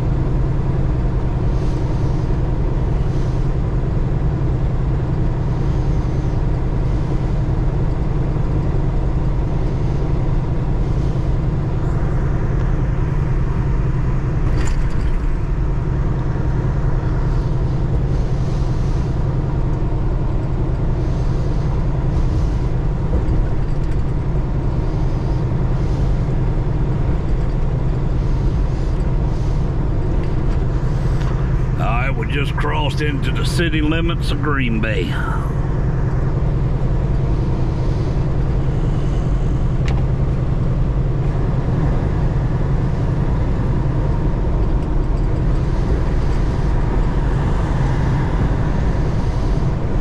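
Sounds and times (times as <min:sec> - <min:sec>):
truck engine drone: 0:00.0 - 0:50.0
road noise: 0:08.8 - 0:50.0.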